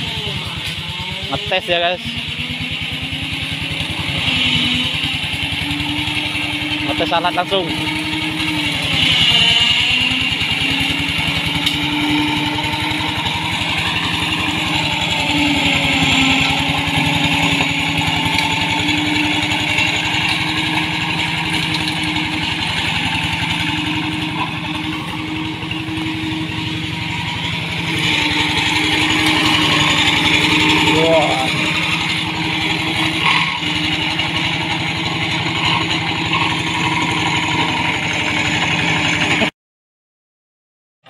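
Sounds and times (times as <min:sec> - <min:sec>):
hand tractor engine running: 0:00.0 - 0:39.5.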